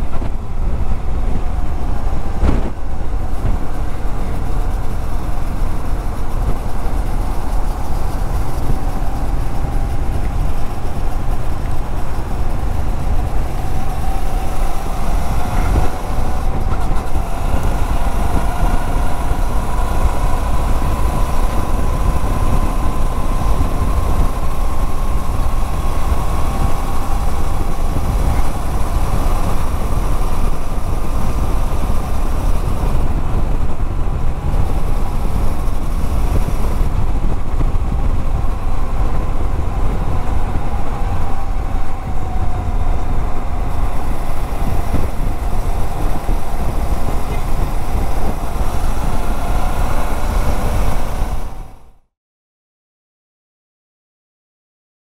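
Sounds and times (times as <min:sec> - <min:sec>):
motorcycle engine running: 0:00.0 - 0:51.9
rushing wind noise: 0:00.0 - 0:52.0.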